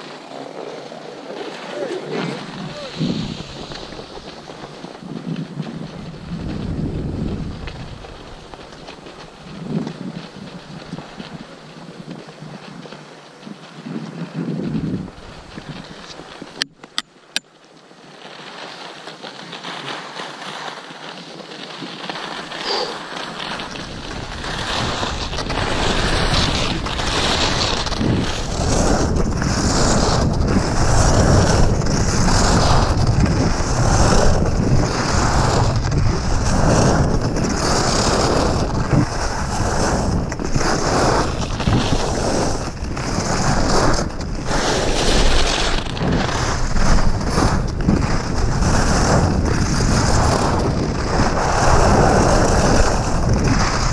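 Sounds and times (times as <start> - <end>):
skis scraping over snow: 0.0 - 53.9
wind buffeting microphone: 1.0 - 16.6, 23.6 - 53.9.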